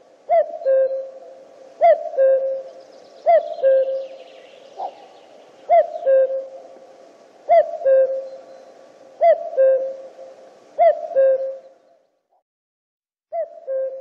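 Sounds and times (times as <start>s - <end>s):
cuckoo calling: 0.0s - 12.0s, 13.3s - 14.0s.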